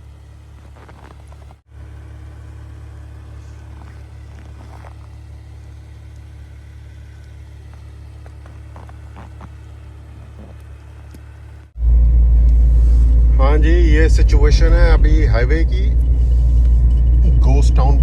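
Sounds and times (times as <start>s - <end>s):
car driving on highway: 0.0s - 18.0s.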